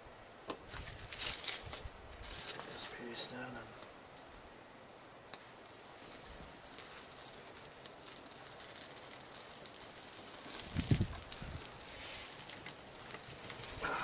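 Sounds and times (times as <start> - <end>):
kindling fire crackling: 0.0 - 14.0.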